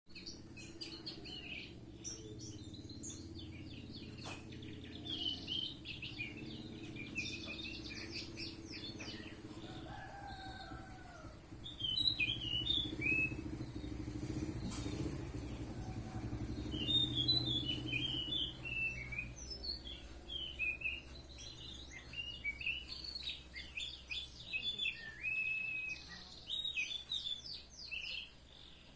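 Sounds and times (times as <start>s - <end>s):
thrush singing: 0.8s - 24.8s.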